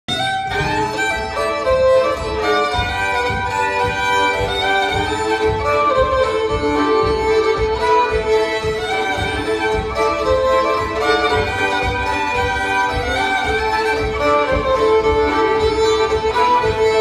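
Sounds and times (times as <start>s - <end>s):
fiddles playing a tune: 0.1s - 17.0s.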